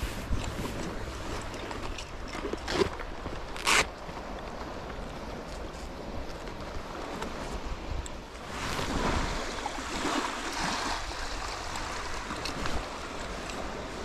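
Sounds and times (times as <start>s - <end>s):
surf washing: 0.0s - 14.0s
wind rumble on microphone: 0.0s - 14.0s.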